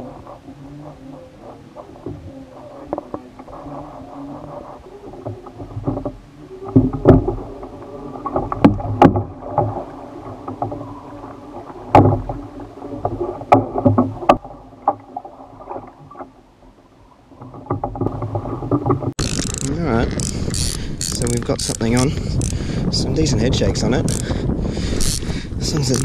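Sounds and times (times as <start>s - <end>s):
paddle strokes splashing: 0.0s - 22.8s
water sloshing against hull: 0.0s - 26.0s.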